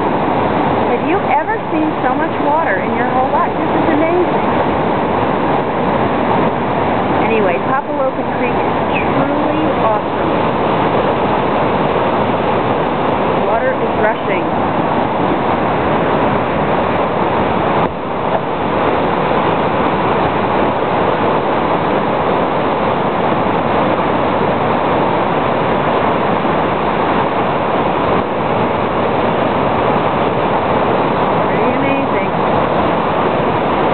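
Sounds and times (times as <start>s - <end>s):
creek rushing through rapids: 0.0s - 33.9s.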